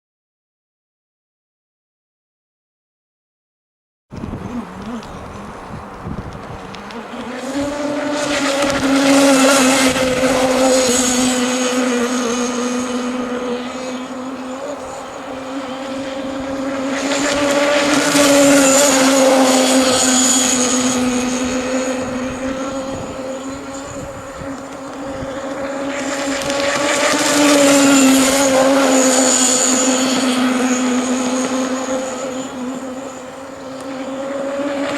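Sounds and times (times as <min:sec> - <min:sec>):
model boat engine buzzing: 0:04.1 - 0:34.9.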